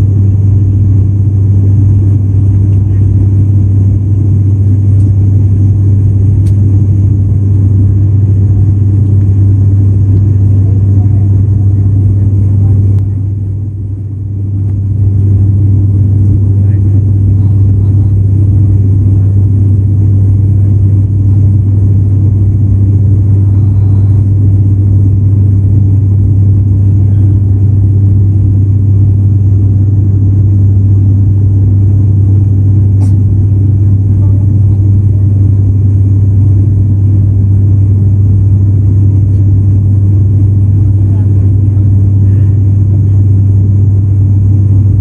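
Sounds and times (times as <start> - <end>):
turboprop cabin drone: 0.0 - 45.0.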